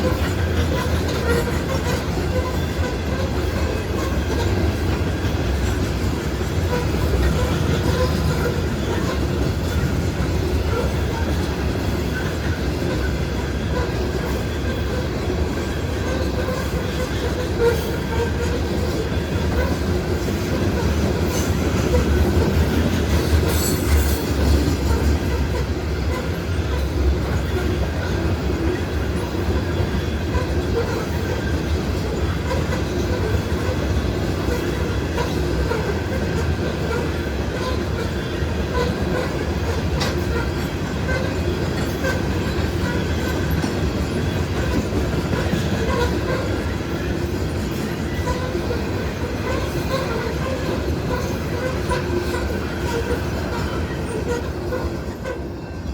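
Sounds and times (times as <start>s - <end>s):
freight train rumbling past: 0.0s - 55.9s
wheels clicking over rail joints: 0.0s - 55.9s.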